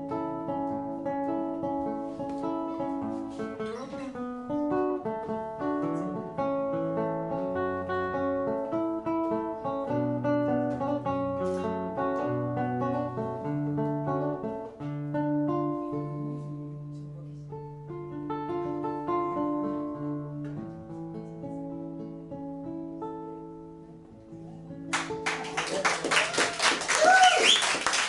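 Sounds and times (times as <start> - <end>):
acoustic guitar melody: 0.0 - 25.8.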